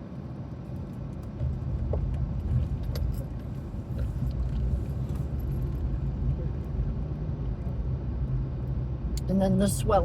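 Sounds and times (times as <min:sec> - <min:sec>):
low car rumble: 0:00.0 - 0:10.0.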